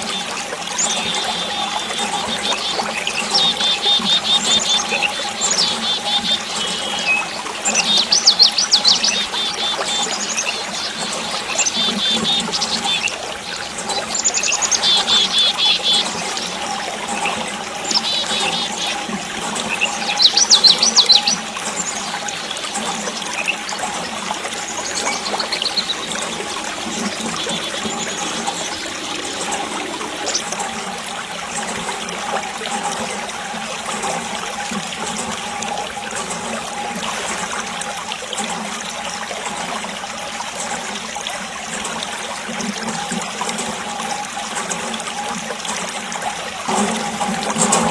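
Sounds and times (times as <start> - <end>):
water trickling and pouring: 0.0 - 47.9.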